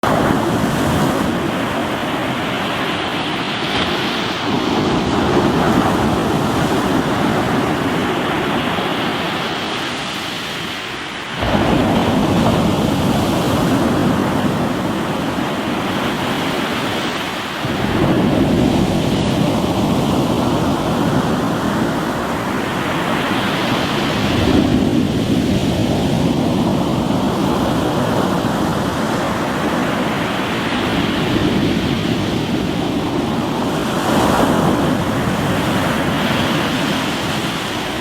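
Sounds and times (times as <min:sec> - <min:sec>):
waves breaking on rocky shore: 0:00.0 - 0:38.0.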